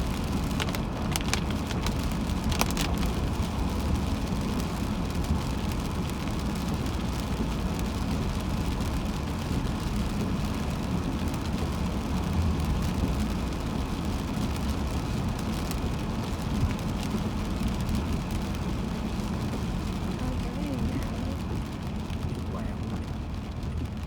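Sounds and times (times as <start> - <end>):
tyres and engine rumble: 0.0 - 24.0.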